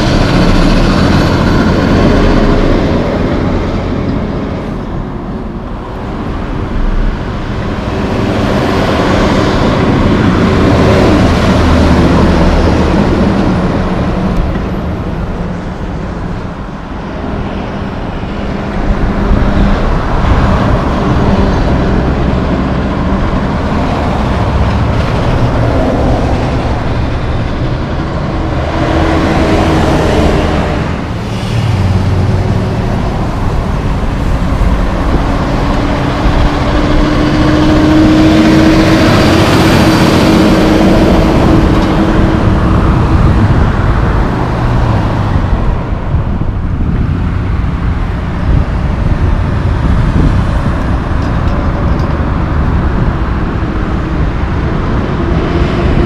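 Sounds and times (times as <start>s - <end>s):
heavy diesel trucks passing: 0.0s - 56.0s.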